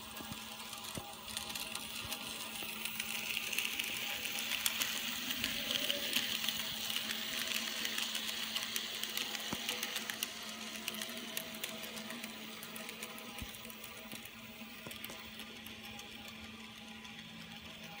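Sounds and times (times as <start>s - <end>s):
model train motor whirring: 0.0s - 18.0s
wheels clicking over rails: 0.0s - 18.0s.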